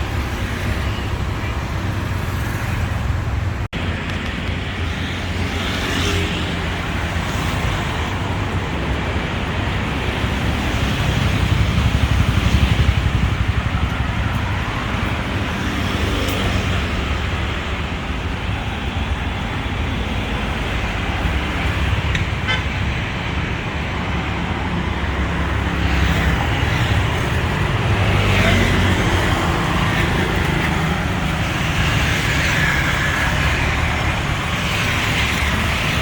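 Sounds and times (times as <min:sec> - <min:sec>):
passing vehicles rumble: 0:00.0 - 0:36.0
street traffic noise: 0:00.0 - 0:36.0.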